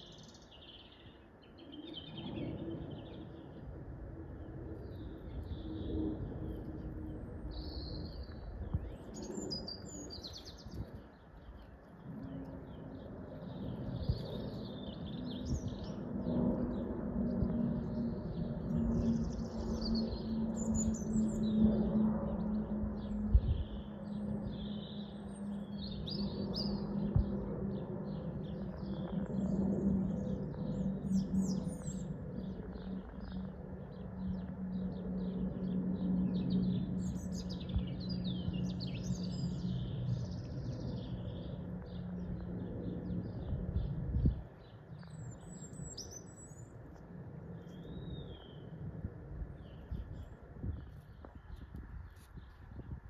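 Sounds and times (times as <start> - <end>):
steady low hum: 2.5 - 53.0
small birds chirping: 4.4 - 48.8.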